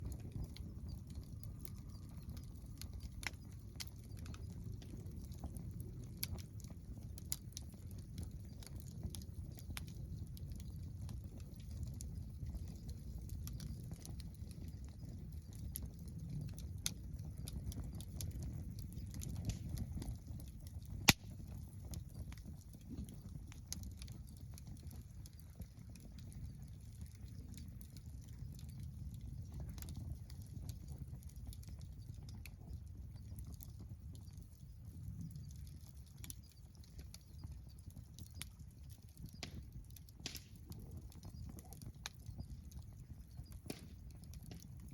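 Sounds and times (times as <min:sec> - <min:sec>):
campfire crackling and popping: 0:00.0 - 0:44.9.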